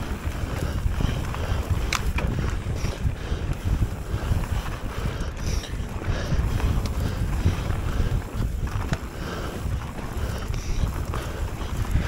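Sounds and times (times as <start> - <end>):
tyres rolling on gravel: 0.0 - 12.0
wind buffeting microphone: 0.0 - 12.0.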